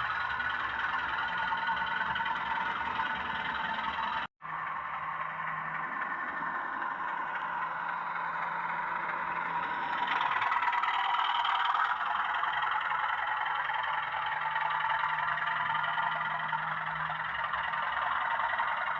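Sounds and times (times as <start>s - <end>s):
model locomotive running: 0.0s - 18.9s.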